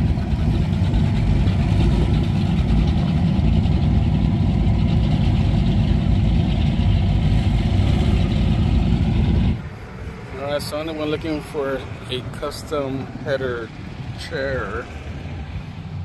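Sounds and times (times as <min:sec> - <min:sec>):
powerboat engines idling: 0:00.0 - 0:16.0.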